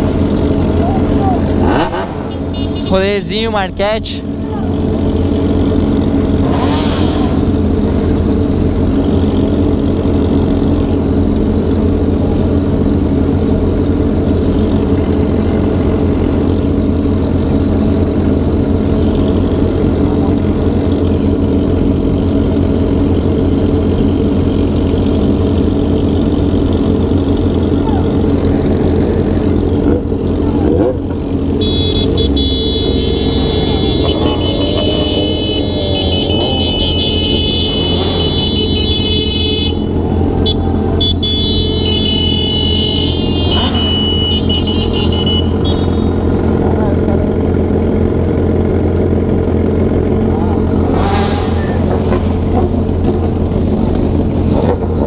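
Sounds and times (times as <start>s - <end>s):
motorcycle engines idling: 0.0s - 55.0s.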